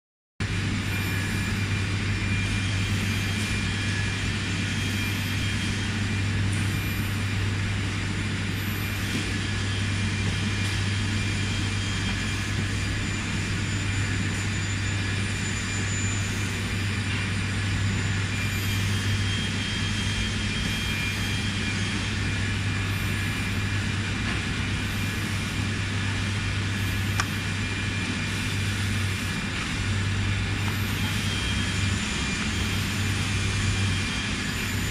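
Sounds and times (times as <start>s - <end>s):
factory machinery drone: 0.4s - 34.9s.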